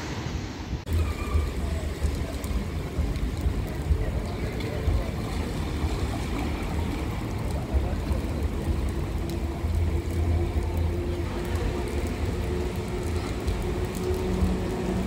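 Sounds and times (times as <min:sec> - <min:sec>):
car tyres hissing on wet road: 0:00.0 - 0:15.0
low rumble of traffic: 0:00.0 - 0:15.0
rain on a wet street: 0:00.0 - 0:15.0.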